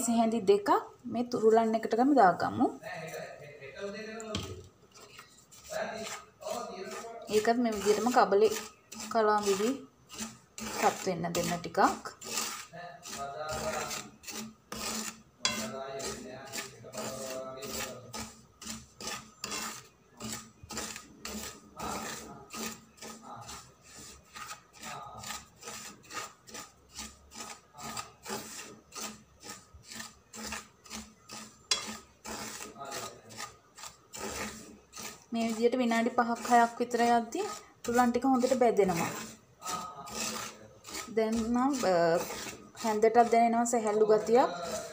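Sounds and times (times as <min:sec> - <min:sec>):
wooden spoon stirring dry grain: 0:00.0 - 0:44.9.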